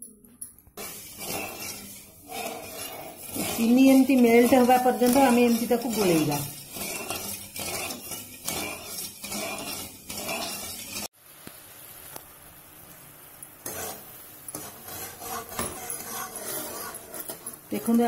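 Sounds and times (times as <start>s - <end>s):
wooden spatula scraping metal pan: 0.8s - 11.1s, 13.6s - 18.0s.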